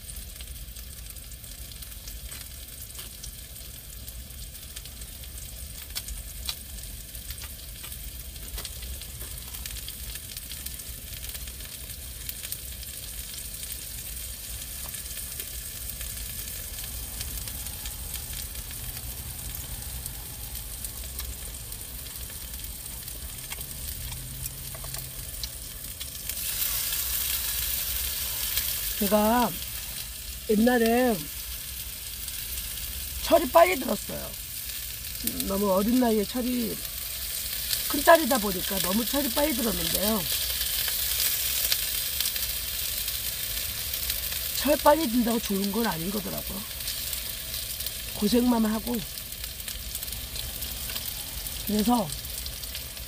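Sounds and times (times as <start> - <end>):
meat sizzling in a frying pan: 0.0 - 53.0.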